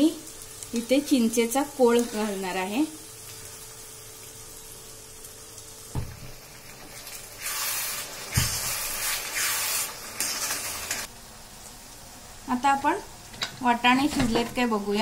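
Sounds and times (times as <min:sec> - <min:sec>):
masala sizzling: 0:00.0 - 0:15.0.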